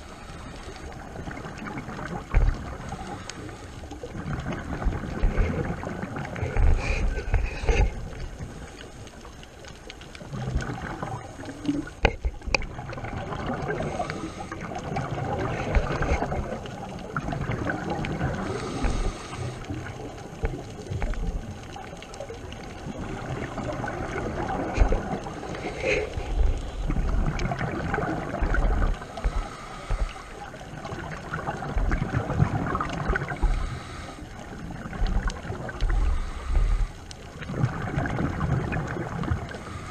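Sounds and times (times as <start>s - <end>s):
underwater regulator bubbles gurgling: 0.0s - 39.9s.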